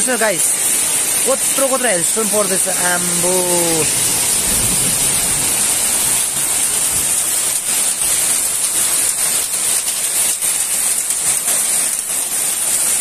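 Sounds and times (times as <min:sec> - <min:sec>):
hailstones ticking: 0:00.0 - 0:13.0
heavy rain hiss: 0:00.0 - 0:13.0.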